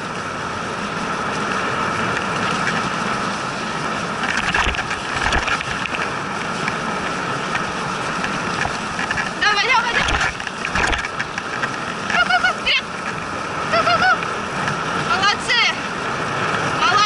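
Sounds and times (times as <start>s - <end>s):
sled gliding over snow: 0.0s - 17.0s.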